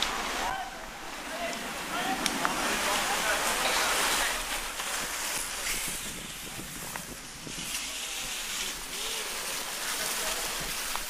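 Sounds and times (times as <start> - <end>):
rushing outdoor hiss: 0.0 - 11.0.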